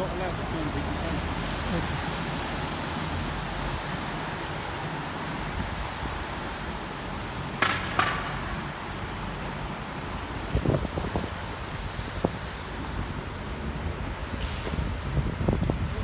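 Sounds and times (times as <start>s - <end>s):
rain hiss: 0.0s - 16.0s
road traffic: 0.0s - 16.0s.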